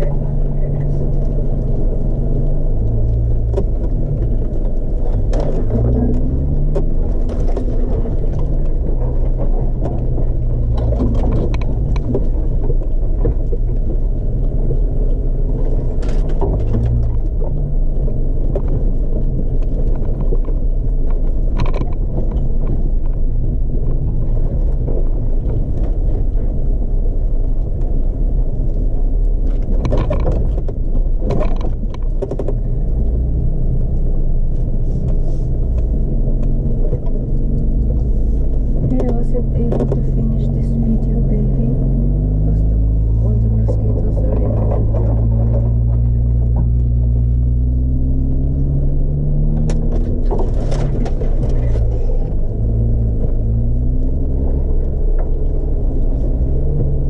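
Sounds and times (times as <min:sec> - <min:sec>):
knocks and rattles: 0:00.0 - 0:26.5, 0:29.4 - 0:34.2, 0:35.1 - 0:57.0
vehicle engine running: 0:00.0 - 0:57.0.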